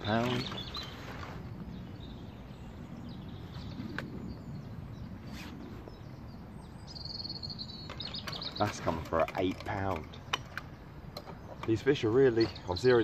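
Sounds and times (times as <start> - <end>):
faint birdsong: 0.0 - 13.0
low wind rumble: 0.0 - 13.0.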